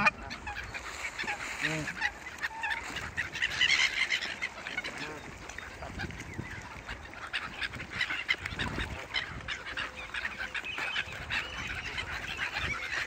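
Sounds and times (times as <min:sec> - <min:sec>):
geese honking: 0:00.0 - 0:13.0
waterbirds calling: 0:00.0 - 0:13.0.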